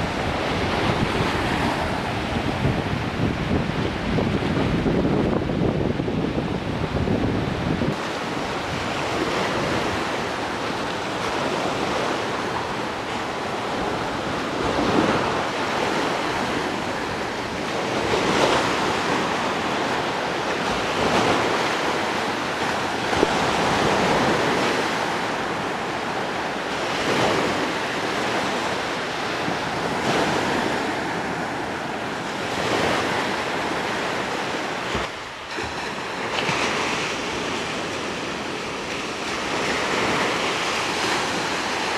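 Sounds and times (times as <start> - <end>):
surf washing up beach: 0.0 - 41.9
wind buffeting microphone: 0.0 - 41.9.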